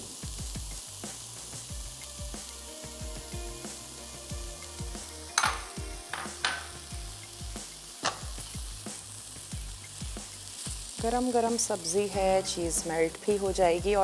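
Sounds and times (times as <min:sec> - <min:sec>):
light sizzle from pan: 0:00.0 - 0:14.0.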